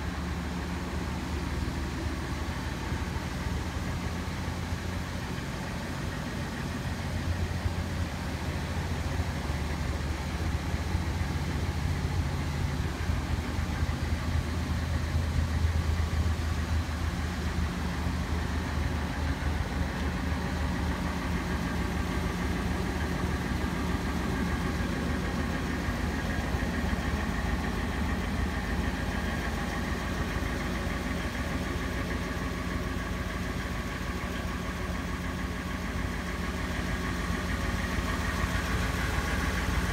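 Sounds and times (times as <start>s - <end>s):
van engine idling: 0.0s - 39.9s.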